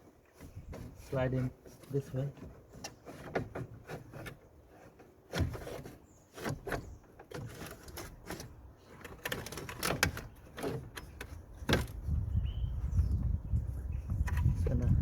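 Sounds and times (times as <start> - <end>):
fan assembly scraping and clicking: 0.0 - 12.2, 14.1 - 15.0.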